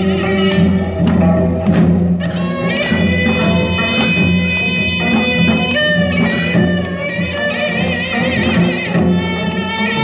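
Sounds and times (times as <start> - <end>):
reedy wind instrument: 0.0 - 10.0
sharp percussion strikes: 0.0 - 10.0.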